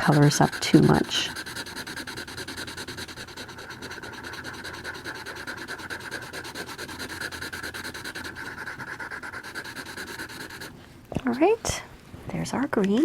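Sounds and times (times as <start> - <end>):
marker scribbling on paper: 0.0 - 10.7.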